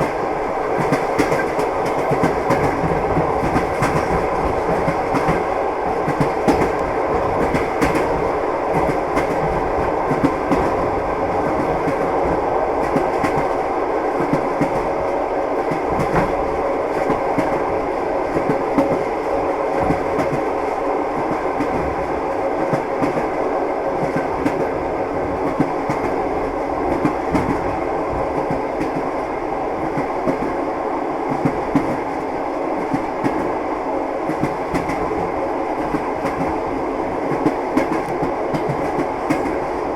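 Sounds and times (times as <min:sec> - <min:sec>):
train wheels clattering on rails: 0:00.0 - 0:15.0, 0:15.6 - 0:17.7, 0:18.3 - 0:20.6, 0:24.0 - 0:29.1, 0:29.8 - 0:30.6, 0:31.2 - 0:33.6, 0:34.2 - 0:39.8
train running rumble: 0:00.0 - 0:39.9.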